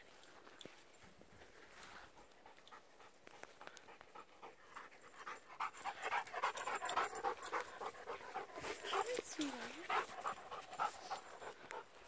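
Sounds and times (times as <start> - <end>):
dog panting: 1.8 - 12.0.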